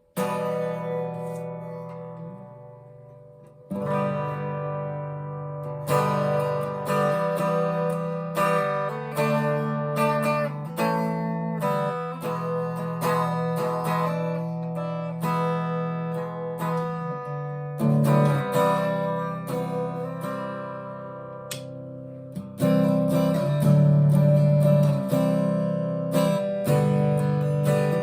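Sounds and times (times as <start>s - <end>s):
electric guitar strummed chords: 0.0s - 28.0s.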